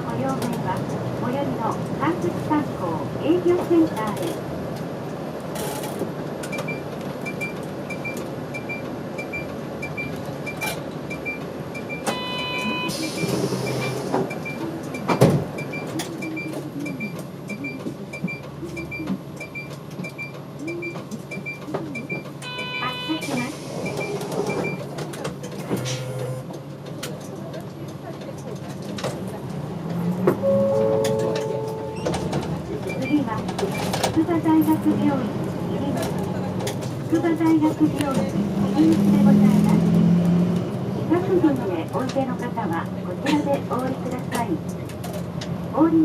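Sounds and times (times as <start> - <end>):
bus engine idling: 0.0 - 46.0.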